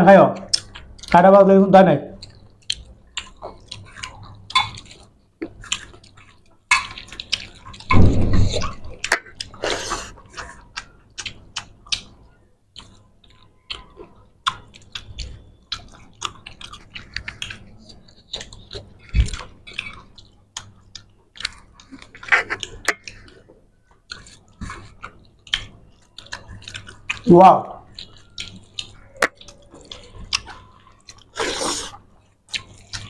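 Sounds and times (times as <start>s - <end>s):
wet chewing and lip smacks: 0.4s - 1.2s, 2.1s - 33.0s.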